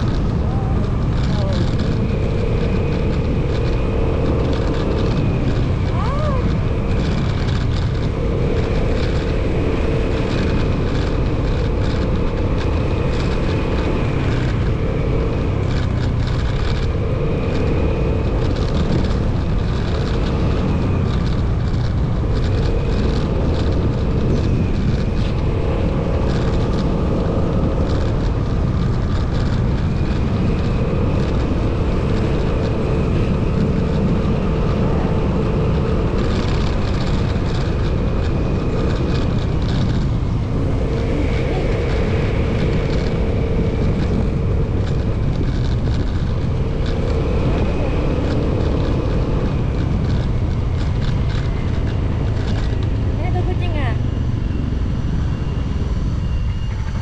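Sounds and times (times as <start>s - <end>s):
faint whine: 0.0s - 57.0s
motorcycle engine drone: 0.0s - 57.0s
wind and road noise: 0.0s - 57.0s.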